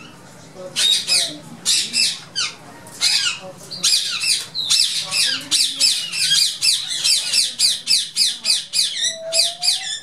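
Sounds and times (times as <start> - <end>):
parakeets squawking: 0.7 - 10.0.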